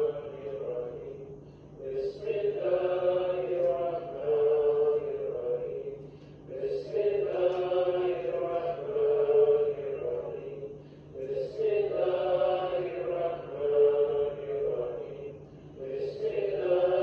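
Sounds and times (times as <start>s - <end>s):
steady low hum: 0.0s - 17.0s
voices chanting in unison: 0.0s - 17.0s.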